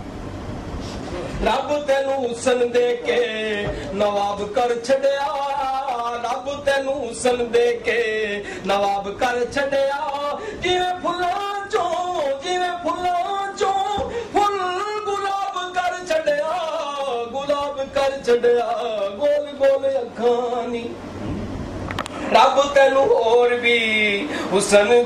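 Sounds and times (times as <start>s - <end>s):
man singing unaccompanied: 1.4s - 21.0s, 22.2s - 25.0s.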